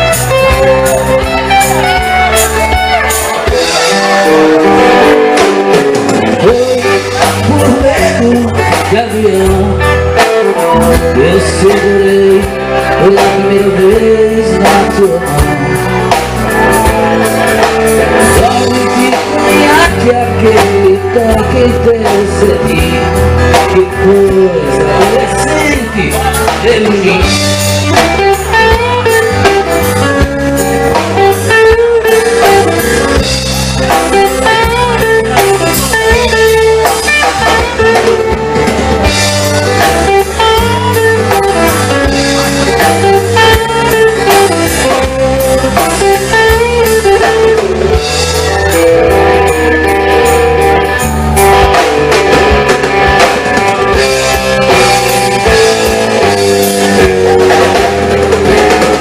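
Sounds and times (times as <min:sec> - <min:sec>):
bass line: 0:00.0 - 0:59.0
drum kit: 0:00.0 - 0:59.0
guitar: 0:00.0 - 0:59.0.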